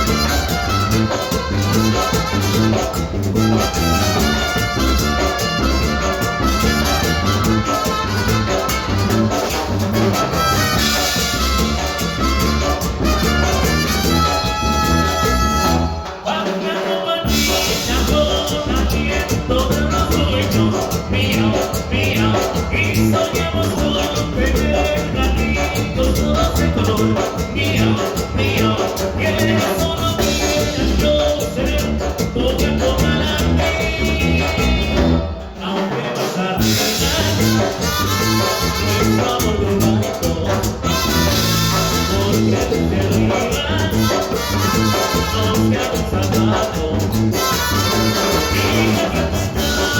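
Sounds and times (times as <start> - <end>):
latin band playing live: 0.0 - 49.9.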